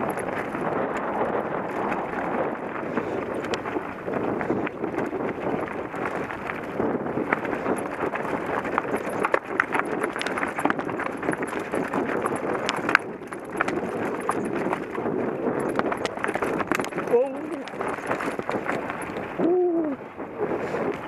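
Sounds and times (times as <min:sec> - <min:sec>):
bike rattling clicks and knocks: 0:00.0 - 0:19.4
bike tyres crunching on rock: 0:00.0 - 0:19.4.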